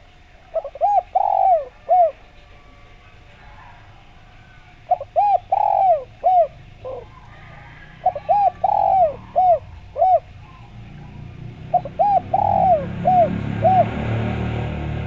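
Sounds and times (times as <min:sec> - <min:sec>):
dove cooing: 0:00.0 - 0:14.7.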